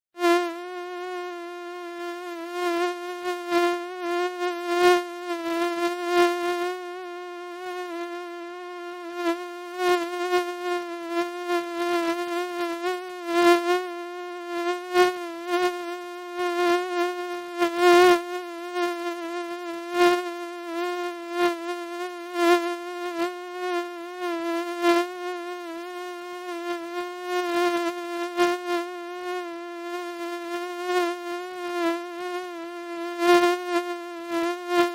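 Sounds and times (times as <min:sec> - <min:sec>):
mosquito whine: 0:00.2 - 0:34.9.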